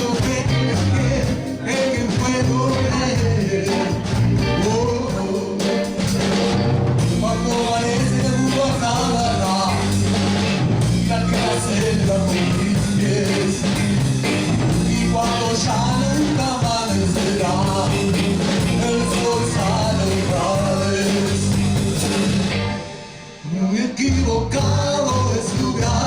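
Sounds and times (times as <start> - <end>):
bass line: 0.0 - 26.0
blues band playing: 0.0 - 26.0
drums: 0.0 - 26.0.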